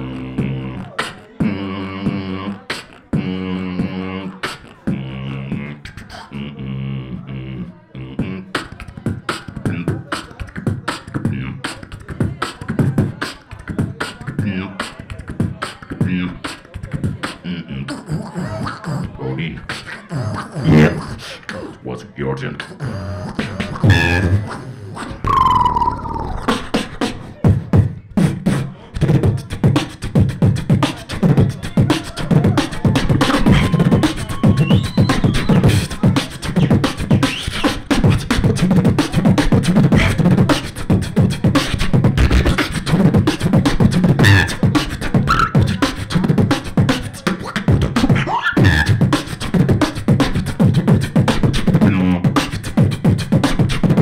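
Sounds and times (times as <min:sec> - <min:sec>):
person beatboxing: 0:00.0 - 0:54.0.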